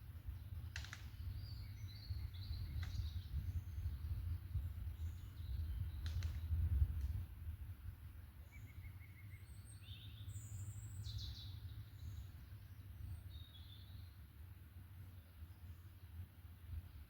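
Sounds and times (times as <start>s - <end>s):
forest birds singing: 0.0s - 17.0s.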